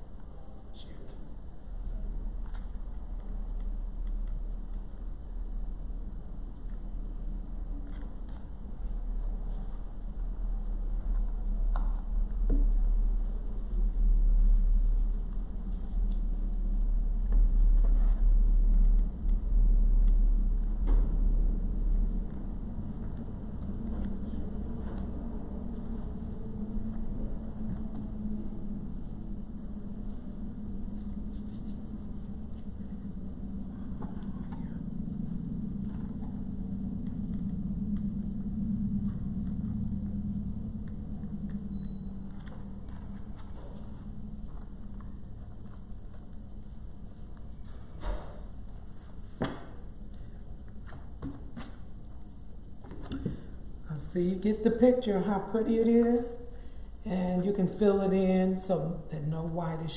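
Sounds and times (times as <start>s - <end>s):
low rumble: 0.0s - 59.8s
faint hum: 0.0s - 59.9s.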